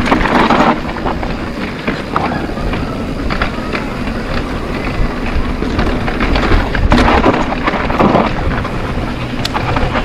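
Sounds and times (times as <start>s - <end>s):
bike rattling over bumps: 0.0s - 10.0s
tyre rumble on dirt: 0.0s - 10.0s
wind buffeting microphone: 0.0s - 10.0s.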